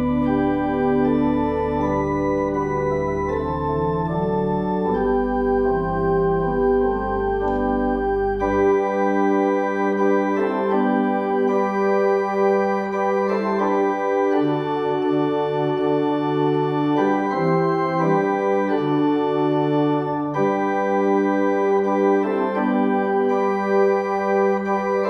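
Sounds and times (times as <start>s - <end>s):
organ playing held chords: 0.0s - 25.0s.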